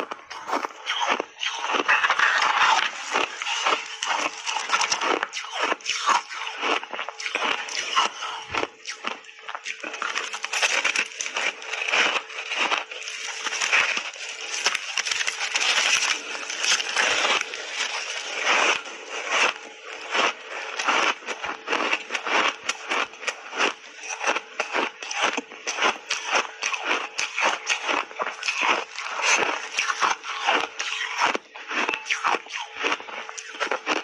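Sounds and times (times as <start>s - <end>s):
faint steady hum: 0.0s - 34.0s
ice crunching being chewed: 0.0s - 34.0s.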